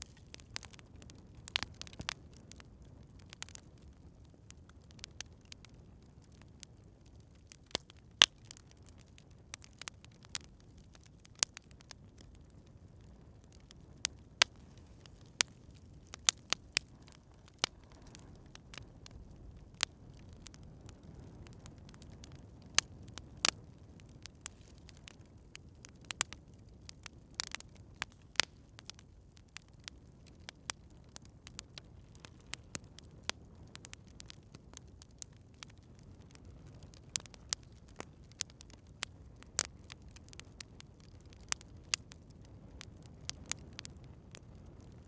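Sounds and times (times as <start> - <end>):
burning wood popping: 0.0 - 45.0
low rumble of flames: 0.0 - 45.0.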